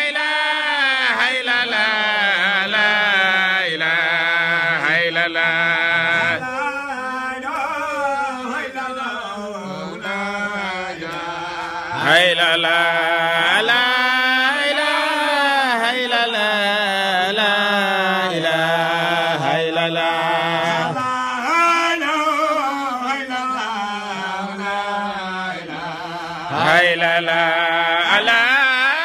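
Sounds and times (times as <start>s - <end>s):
man chanting: 0.0s - 29.0s.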